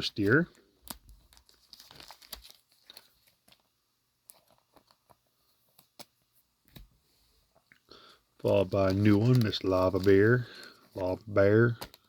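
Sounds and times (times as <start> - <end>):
trading cards clicking and rustling: 0.0 - 6.9, 8.4 - 12.0.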